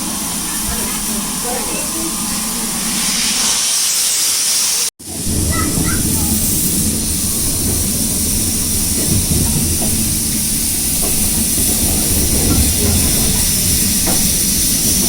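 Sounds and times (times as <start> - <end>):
high hiss: 0.0 - 15.0
train rumble: 0.0 - 15.0.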